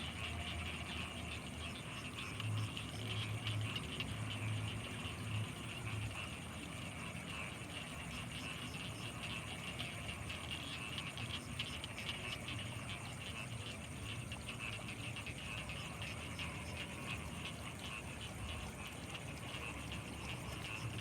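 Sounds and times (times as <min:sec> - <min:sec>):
frogs clicking and trilling: 0:00.0 - 0:21.0.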